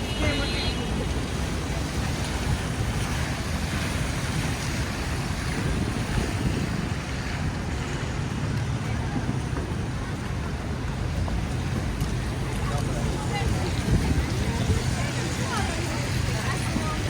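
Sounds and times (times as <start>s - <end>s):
city street low rumble: 0.0s - 17.0s.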